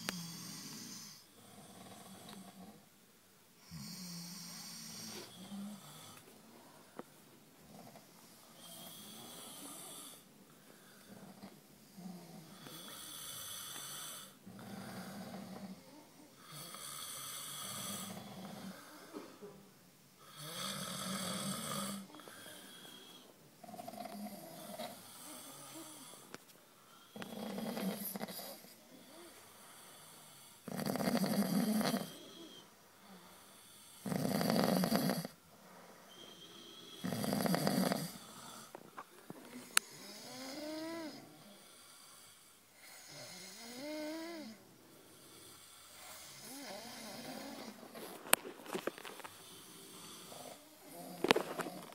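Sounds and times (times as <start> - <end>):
man snoring: 0.0 - 2.8, 3.6 - 6.2, 8.6 - 10.3, 11.0 - 19.0, 20.2 - 26.3, 27.1 - 35.4, 36.8 - 38.8, 39.6 - 47.8, 49.4 - 51.9.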